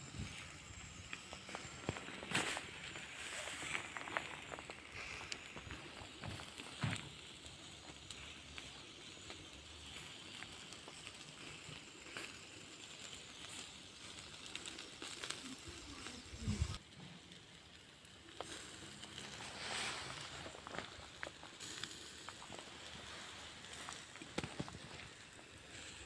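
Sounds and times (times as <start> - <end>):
meat sizzling over charcoal: 0.0 - 26.0.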